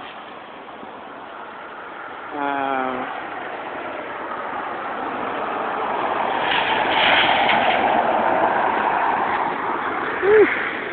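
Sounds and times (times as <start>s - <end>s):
rushing wind and rain: 0.0s - 10.9s.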